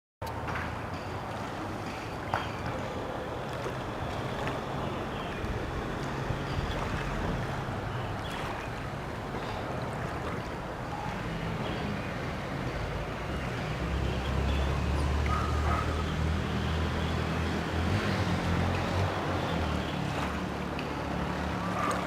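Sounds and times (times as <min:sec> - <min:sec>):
rushing outdoor noise: 0:00.2 - 0:22.0
birds chirping: 0:01.8 - 0:22.0.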